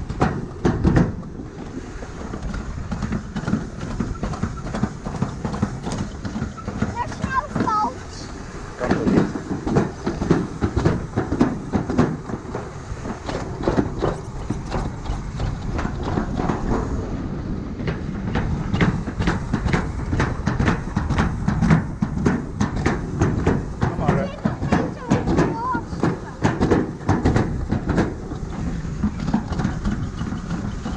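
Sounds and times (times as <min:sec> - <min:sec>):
ride vehicle rattling and clattering: 0:00.0 - 0:30.9.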